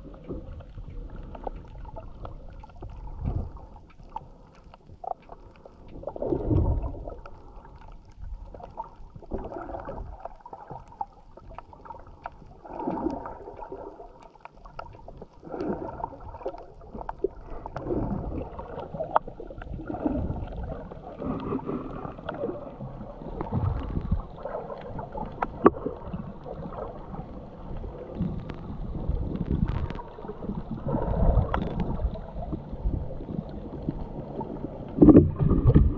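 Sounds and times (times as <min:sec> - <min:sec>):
underwater sloshing: 0:00.0 - 0:35.9.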